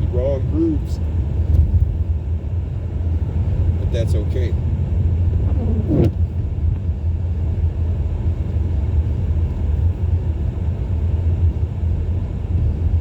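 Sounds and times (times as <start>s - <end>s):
car engine drone: 0.0s - 13.0s
road noise inside car: 0.0s - 13.0s.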